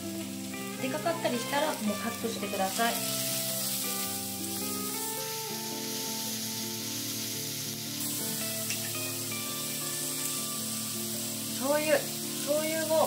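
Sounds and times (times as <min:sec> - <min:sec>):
background music with held notes: 0:00.0 - 0:13.0
beef and onion sizzling: 0:00.0 - 0:13.0.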